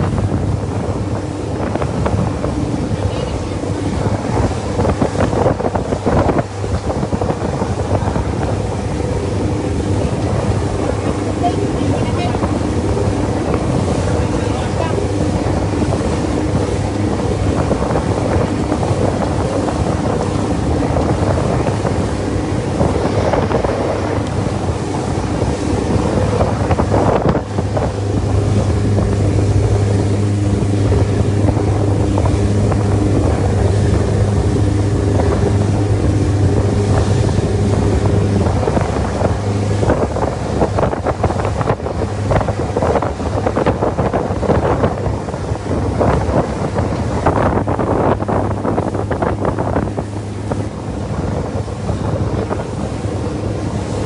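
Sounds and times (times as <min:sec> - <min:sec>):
boat engine running: 0:00.0 - 0:54.0
wind rushing across microphone: 0:00.0 - 0:54.0.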